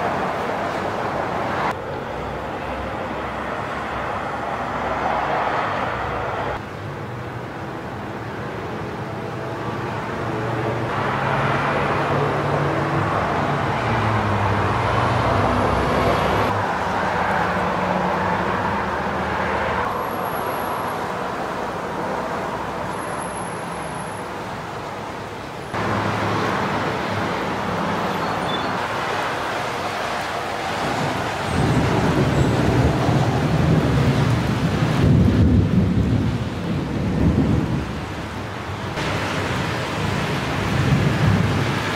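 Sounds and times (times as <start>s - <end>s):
road traffic passing: 0.0s - 41.9s.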